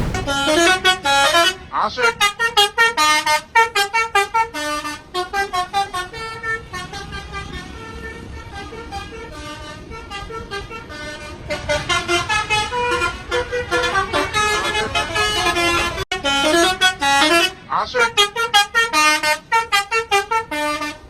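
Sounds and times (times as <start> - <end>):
bus horns playing melodies: 0.0 - 21.0.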